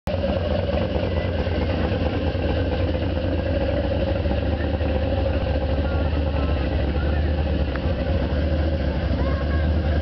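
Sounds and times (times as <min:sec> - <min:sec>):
car engine idling: 0:00.1 - 0:10.0.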